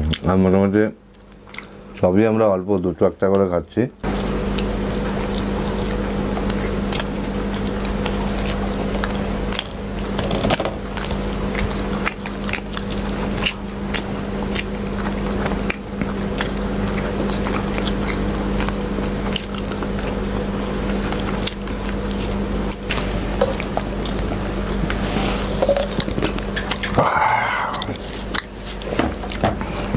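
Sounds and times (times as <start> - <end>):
close chewing and biting: 0.0 - 0.4, 1.1 - 2.0, 4.0 - 29.9
background hum: 0.0 - 29.9.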